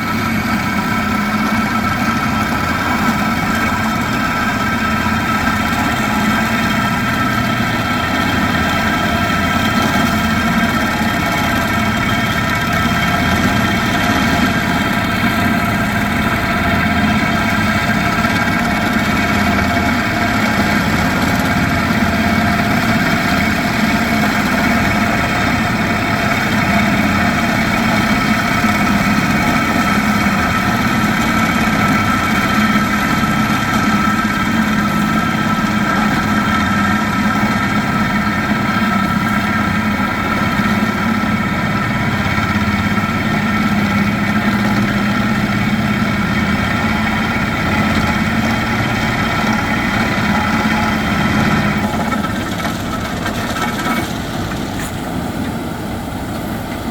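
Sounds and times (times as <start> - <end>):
drilling rig engine drone: 0.0 - 56.9
steady whine: 0.0 - 56.9.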